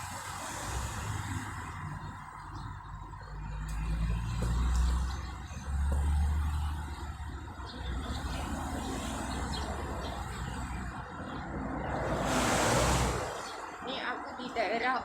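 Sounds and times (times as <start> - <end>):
heavy vehicle engines rumbling: 0.0 - 15.0.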